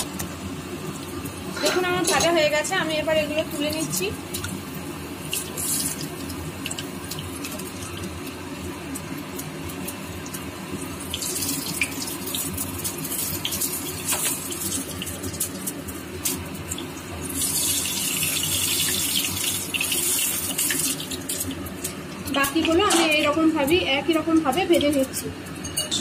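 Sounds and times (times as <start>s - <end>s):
frying sizzle with crackling pops: 0.0s - 26.0s.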